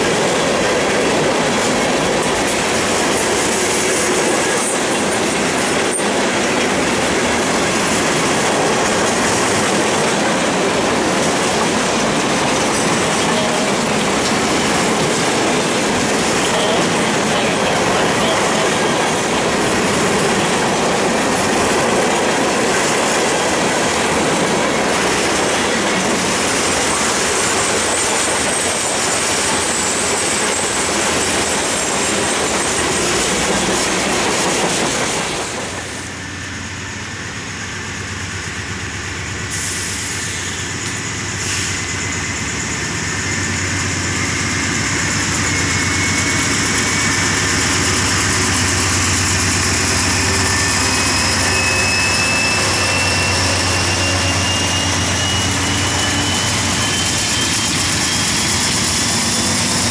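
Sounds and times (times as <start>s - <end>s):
diesel locomotive engine drone: 0.0s - 59.9s
freight train wheels rumbling on track: 0.0s - 59.9s.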